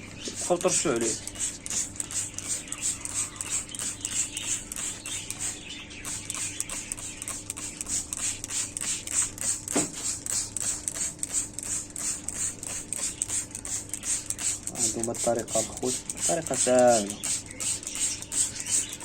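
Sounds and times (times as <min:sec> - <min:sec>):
spray bottle squirting water: 0:00.1 - 0:19.0.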